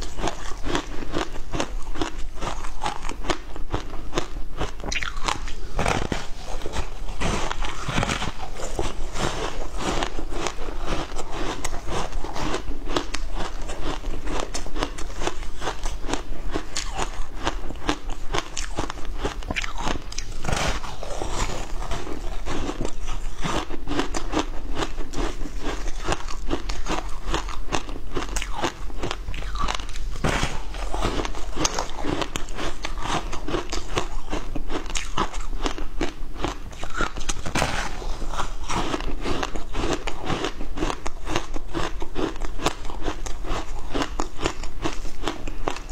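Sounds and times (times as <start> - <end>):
chewing crunching ice: 0.0 - 45.9.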